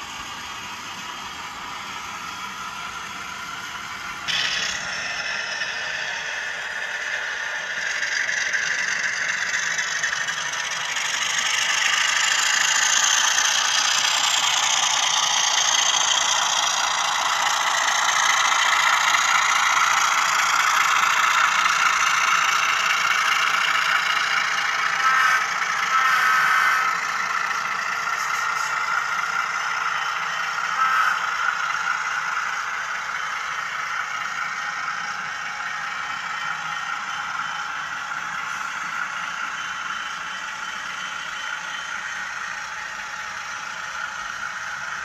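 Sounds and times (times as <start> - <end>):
diesel engine sound from small speaker: 0.0 - 45.0
model train wheels clattering on track: 2.8 - 45.0.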